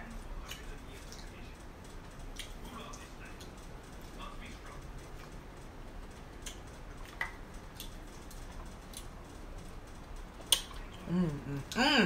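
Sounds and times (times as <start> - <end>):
eating clicks and wet smacks: 0.4 - 11.8.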